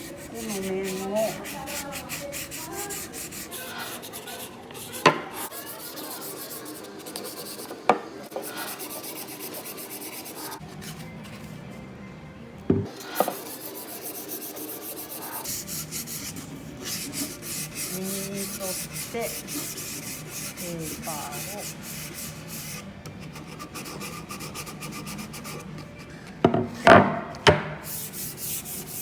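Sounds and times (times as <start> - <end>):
sandpaper rubbing on wood: 0.0 - 7.7, 8.3 - 11.1, 13.0 - 25.7, 27.8 - 29.0.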